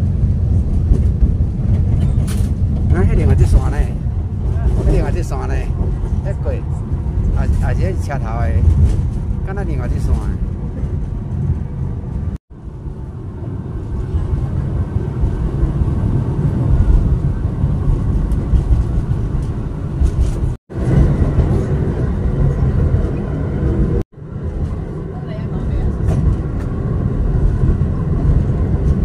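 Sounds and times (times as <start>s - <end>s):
train wheels rumbling and rattling: 0.0s - 29.0s.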